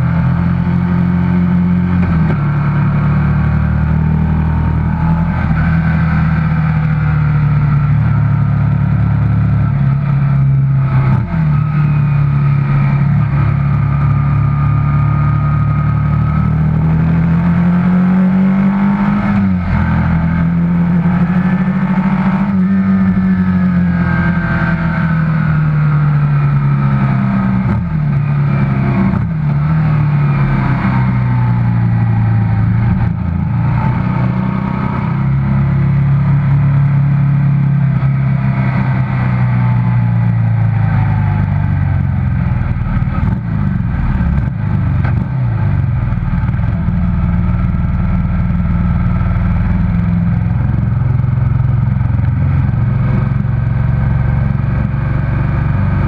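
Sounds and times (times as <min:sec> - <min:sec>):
racing motorcycle engine: 0:00.0 - 0:56.0.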